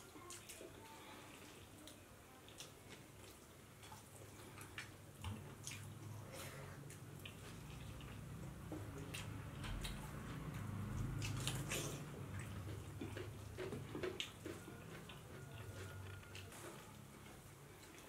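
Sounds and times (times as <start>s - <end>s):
people chewing with open mouths: 0.0s - 18.0s.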